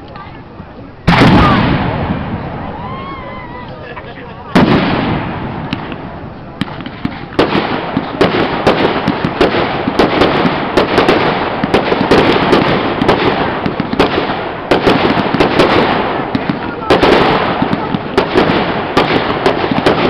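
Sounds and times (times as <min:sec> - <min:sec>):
continuous rumble: 0:00.0 - 0:20.0
fireworks bangs and pops: 0:01.1 - 0:02.6, 0:04.5 - 0:20.0.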